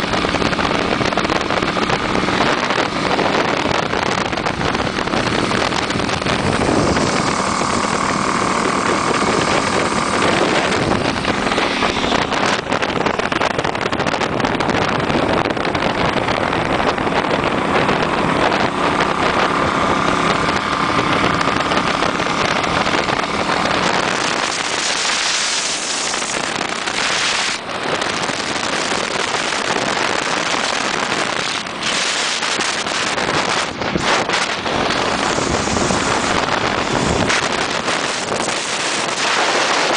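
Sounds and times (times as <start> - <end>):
motorcycle engines running: 0.0 - 39.9
wind rush on microphone: 0.0 - 39.9.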